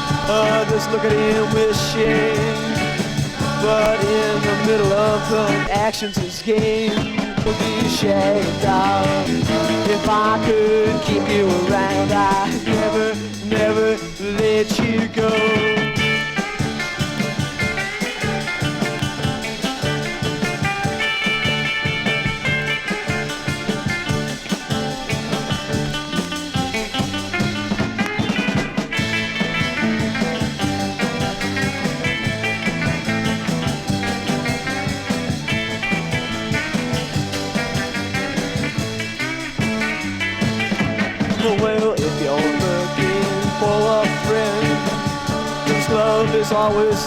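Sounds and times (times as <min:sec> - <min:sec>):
garage rock band instrumental: 0:00.0 - 0:47.0.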